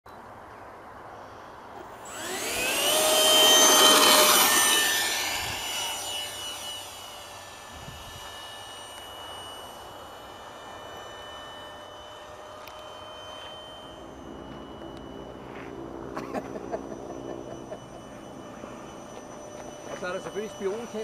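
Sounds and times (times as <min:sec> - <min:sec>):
model jet fan whine: 0:00.8 - 0:21.0.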